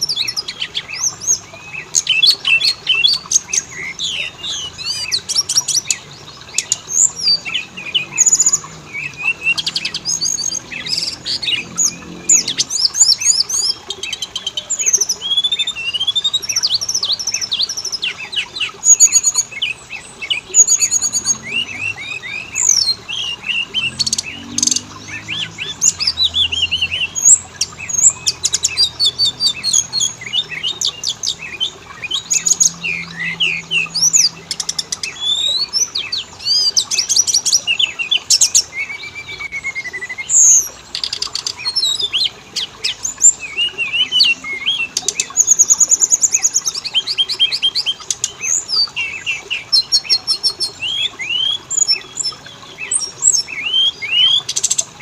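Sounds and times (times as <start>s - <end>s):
songbird singing with trills: 0.0s - 55.0s.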